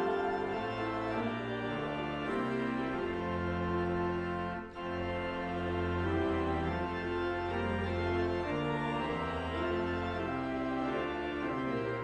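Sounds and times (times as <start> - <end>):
church organ chords: 0.0 - 12.0.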